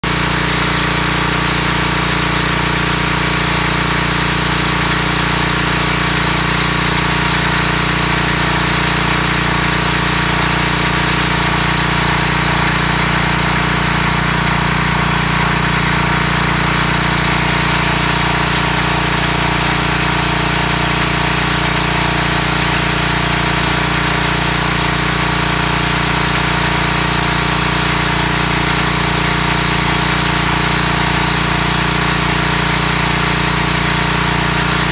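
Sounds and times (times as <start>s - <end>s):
pressure washer engine running: 0.0s - 34.9s.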